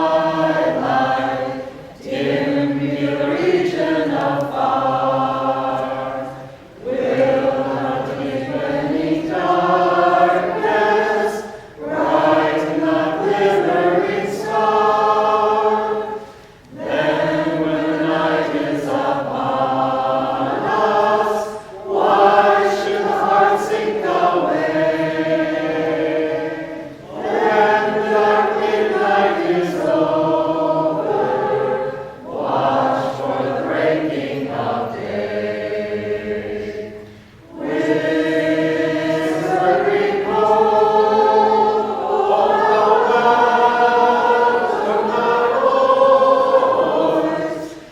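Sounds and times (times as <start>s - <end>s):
vocal group singing in harmony: 0.0s - 47.9s.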